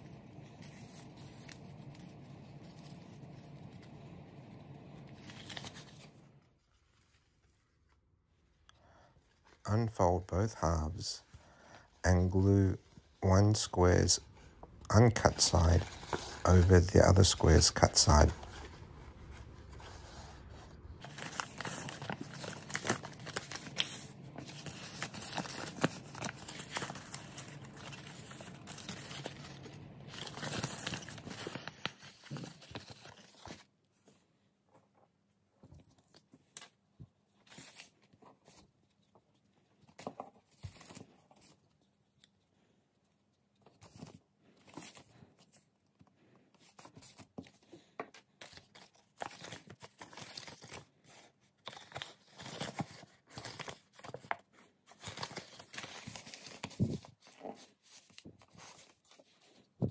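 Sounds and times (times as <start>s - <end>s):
paper crinkling and rustling: 0.0s - 34.9s, 35.6s - 59.9s.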